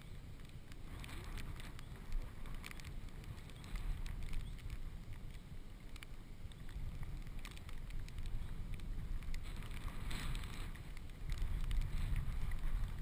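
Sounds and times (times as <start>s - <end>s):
small clicks: 0.0s - 13.0s.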